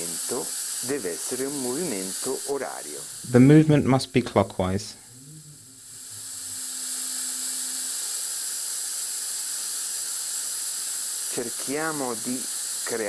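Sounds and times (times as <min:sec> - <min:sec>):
compressed air hissing: 0:00.0 - 0:03.8, 0:04.9 - 0:13.0.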